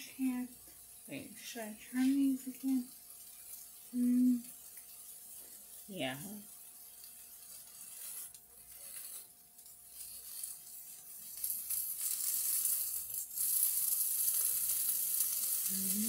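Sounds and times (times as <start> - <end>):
skewers sizzling on a griddle: 0.0 - 16.0.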